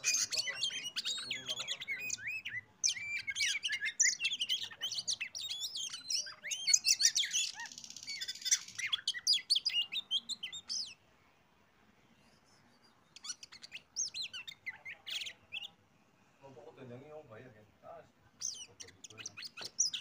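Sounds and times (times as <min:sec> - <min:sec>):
bird singing whistled notes: 0:00.0 - 0:11.0, 0:12.1 - 0:15.8, 0:18.4 - 0:20.0.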